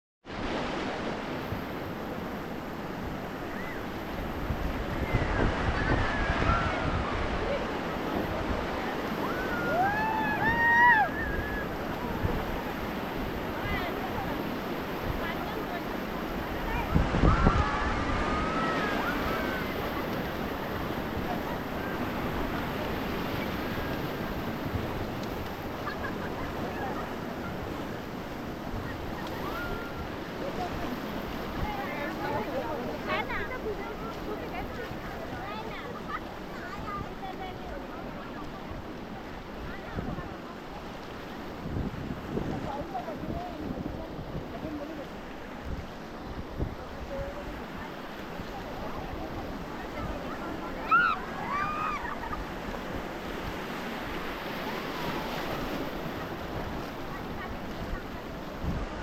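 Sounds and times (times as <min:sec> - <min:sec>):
river rapids rushing: 0:00.3 - 0:40.8, 0:42.6 - 0:59.0.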